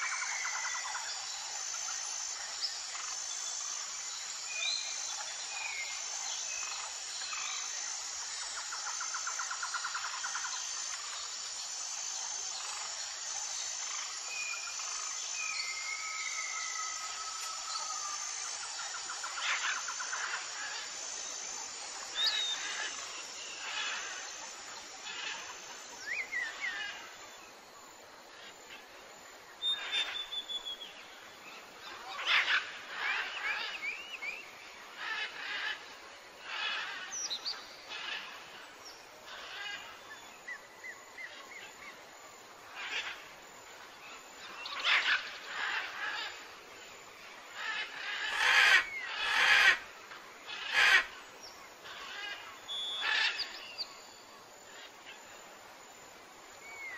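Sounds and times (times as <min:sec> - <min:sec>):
outdoor background hiss: 0:00.0 - 0:56.9.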